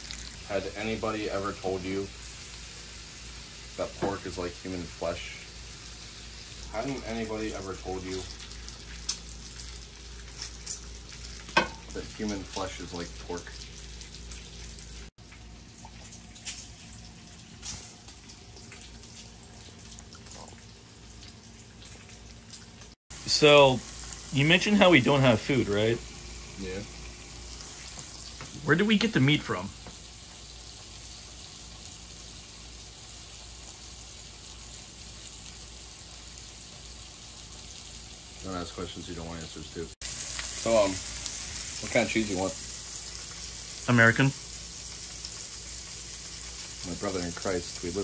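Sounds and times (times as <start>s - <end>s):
burger patties sizzling in a pan: 0.0s - 22.0s, 22.8s - 48.0s.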